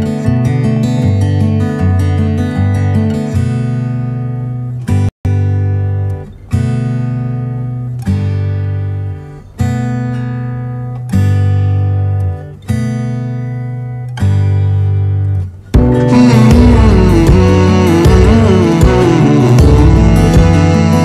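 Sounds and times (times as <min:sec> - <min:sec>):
acoustic guitar chords strummed: 0:00.0 - 0:21.0.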